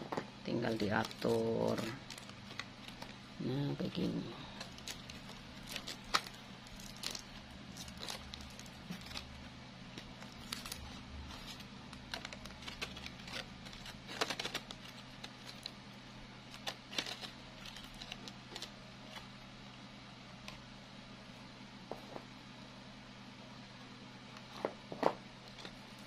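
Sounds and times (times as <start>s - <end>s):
artificial leaves crinkling: 0.4s - 20.6s, 24.3s - 26.0s.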